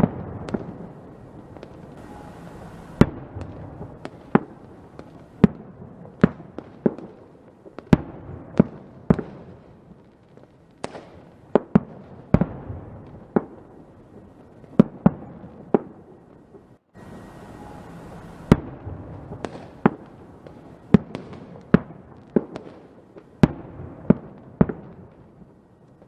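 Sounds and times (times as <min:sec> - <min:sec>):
firework bangs: 0:00.0 - 0:26.0
fireworks rumble and crackle: 0:00.0 - 0:26.0.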